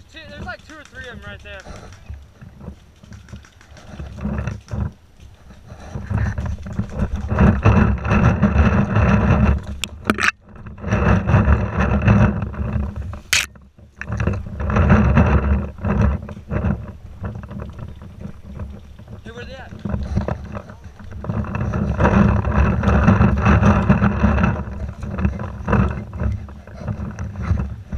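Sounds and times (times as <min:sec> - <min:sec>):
brush rustling and scraping: 0:00.0 - 0:27.9
footsteps on dirt trail: 0:00.0 - 0:27.9
wind buffeting microphone: 0:00.0 - 0:27.9.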